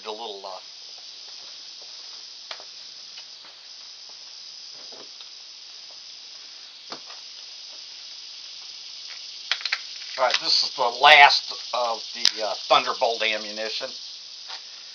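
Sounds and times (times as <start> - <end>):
high-pitched outdoor hiss: 0.0 - 14.9.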